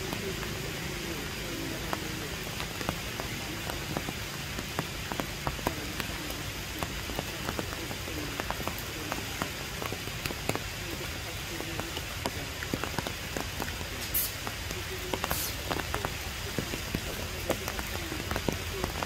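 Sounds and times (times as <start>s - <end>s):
raindrops ticking close by: 0.0s - 19.0s
steady rain hiss: 0.0s - 19.0s.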